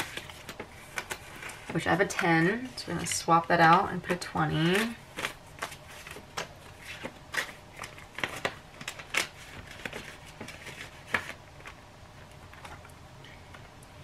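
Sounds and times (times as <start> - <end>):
paper and plastic rustling: 0.0 - 12.9.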